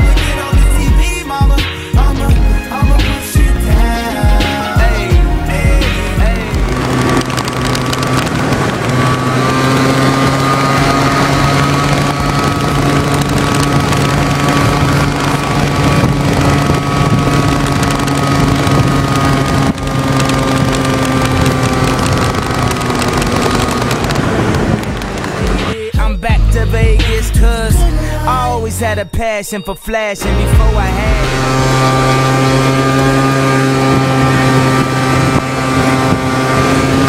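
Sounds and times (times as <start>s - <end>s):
scooter engine running: 0.0s - 25.8s, 30.2s - 37.0s
wind noise on microphone: 2.0s - 25.8s, 30.6s - 37.0s.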